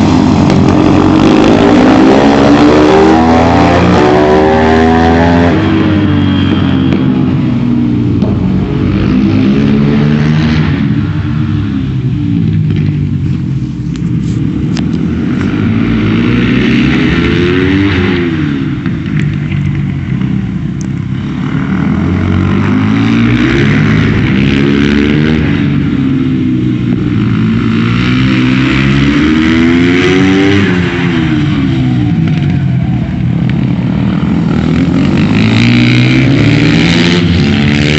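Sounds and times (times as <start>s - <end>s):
motorcycle engine accelerating and braking: 0.0s - 37.9s.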